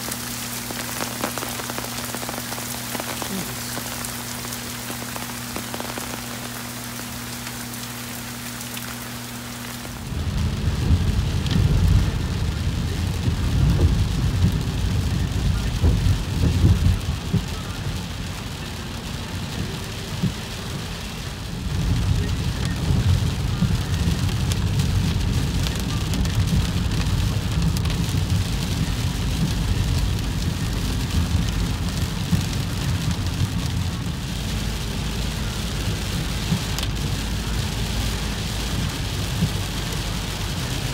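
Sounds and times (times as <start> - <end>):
car rumbling on wet road: 0.0 - 40.9
heavy rain on pavement: 0.0 - 40.9
rain on car windshield and roof: 0.0 - 40.9.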